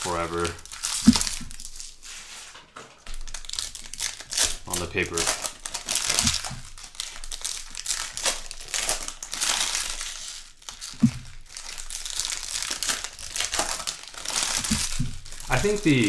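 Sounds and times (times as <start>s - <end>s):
card pack wrappers crinkling and tearing: 0.0s - 2.4s, 3.0s - 16.0s.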